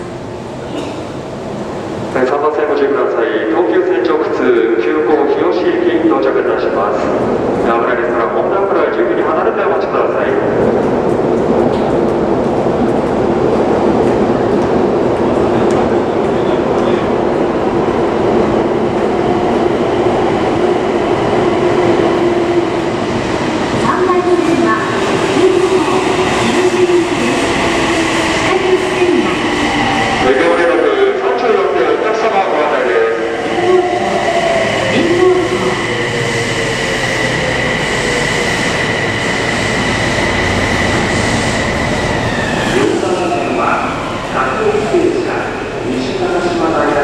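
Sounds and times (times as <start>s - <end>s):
subway train rumbling in tunnel: 0.0s - 47.0s.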